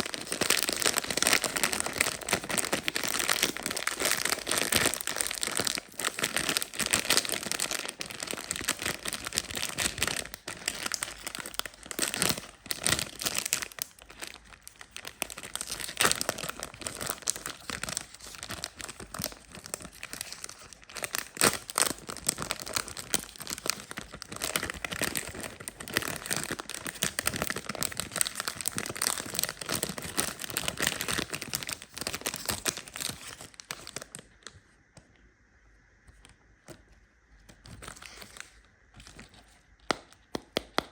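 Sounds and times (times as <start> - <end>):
wrappers crinkling and tearing: 0.0 - 34.5, 37.6 - 40.0.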